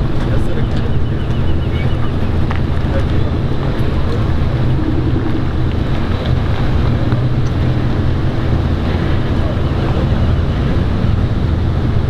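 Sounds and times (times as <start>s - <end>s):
low rumble: 0.0s - 12.0s
wind noise on microphone: 0.0s - 12.0s.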